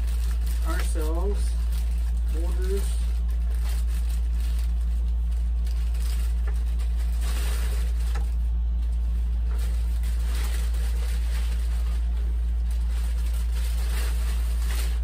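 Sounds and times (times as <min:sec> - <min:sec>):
plastic wrapping rustling: 0:00.0 - 0:15.0
steady low hum: 0:00.0 - 0:15.0.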